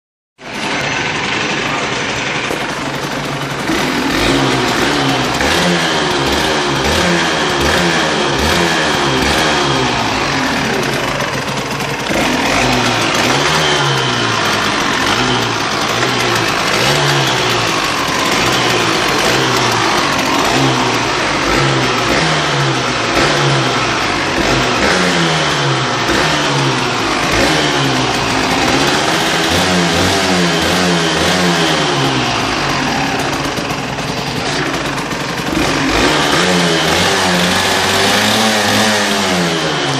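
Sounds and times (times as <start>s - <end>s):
motorcycle engine revving in blips: 0.4s - 39.9s.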